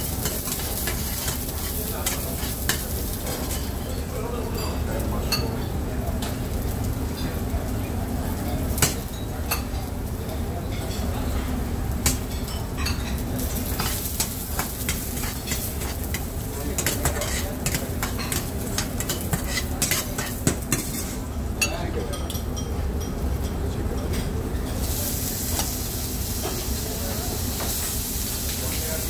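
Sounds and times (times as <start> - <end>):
utensils clinking against a pan: 0.0 - 6.5, 7.1 - 29.0
food sizzling in a pan: 0.0 - 21.9, 24.5 - 29.0.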